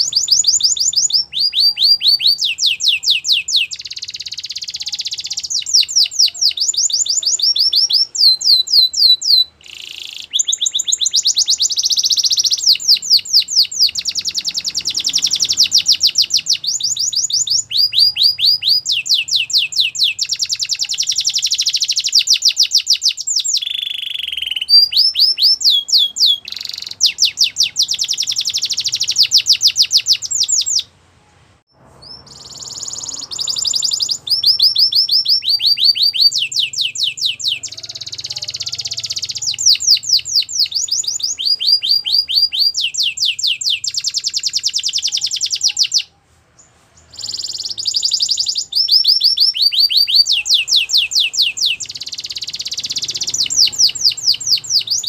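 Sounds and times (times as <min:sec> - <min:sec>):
canary singing trills: 0:00.0 - 0:31.0, 0:31.7 - 0:55.0.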